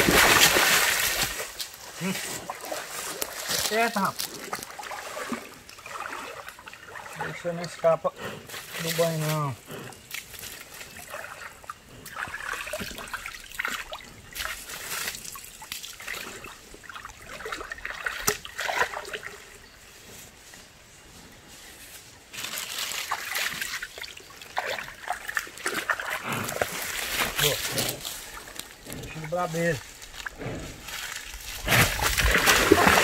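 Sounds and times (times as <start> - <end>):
stream water splashing: 0.0 - 19.7, 22.3 - 33.0.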